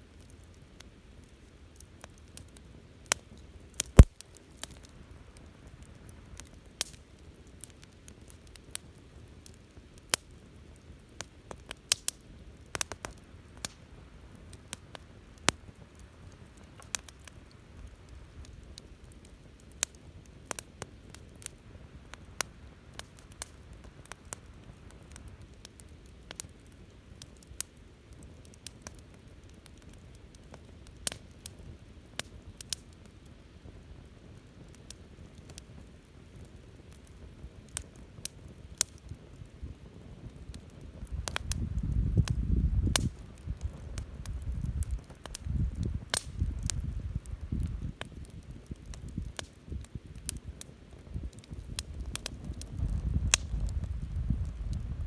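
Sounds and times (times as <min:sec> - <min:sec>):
bonfire crackling and popping: 0:00.0 - 0:55.0
low rumble of burning: 0:00.0 - 0:55.0.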